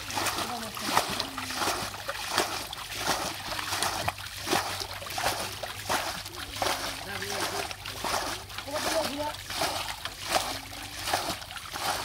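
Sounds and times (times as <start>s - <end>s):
hands splashing in muddy water: 0.0s - 12.0s.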